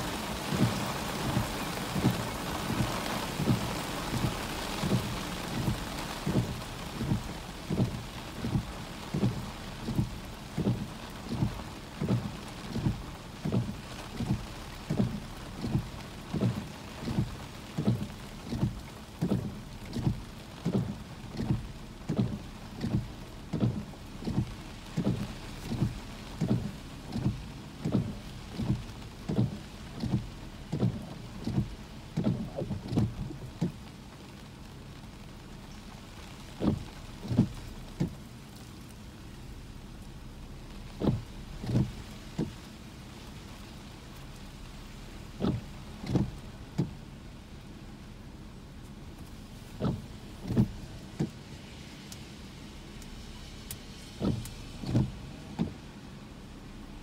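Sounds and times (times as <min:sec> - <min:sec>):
rain hissing on car: 0:00.0 - 0:57.0
windshield wipers thumping: 0:00.1 - 0:34.0, 0:36.4 - 0:38.6, 0:40.8 - 0:47.1, 0:48.6 - 0:51.4, 0:53.7 - 0:56.0.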